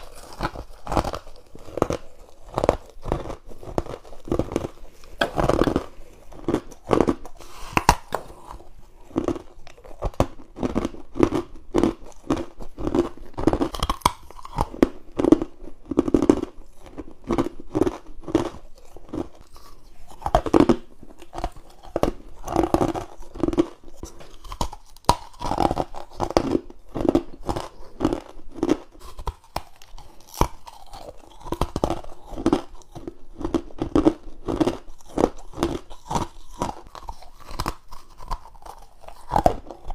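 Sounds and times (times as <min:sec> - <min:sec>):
crunching ice cubes: 0:00.0 - 0:39.9.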